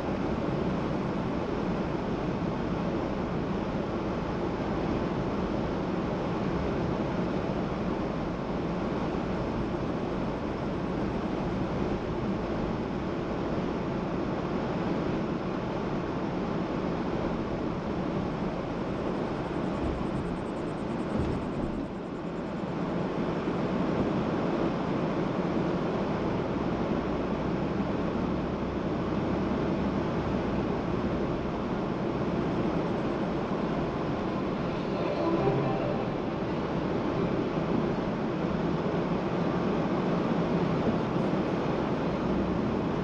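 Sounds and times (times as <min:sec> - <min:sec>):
car road and tyre noise: 0:00.0 - 0:43.0.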